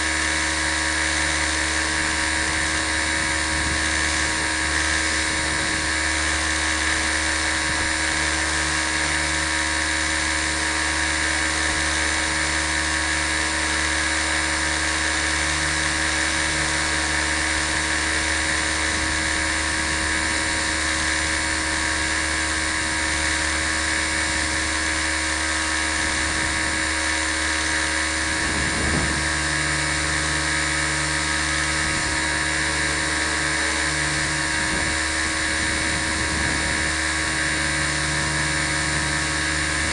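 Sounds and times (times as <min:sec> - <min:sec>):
rc helicopter rotor whine: 0:00.0 - 0:39.9.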